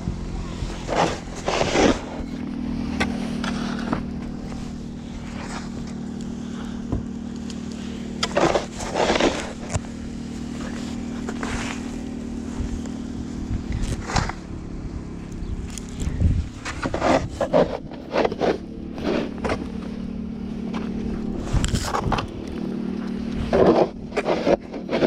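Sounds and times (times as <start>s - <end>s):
engine idling: 0.0s - 25.0s
snow shovel scraping: 0.3s - 14.5s, 16.1s - 25.0s.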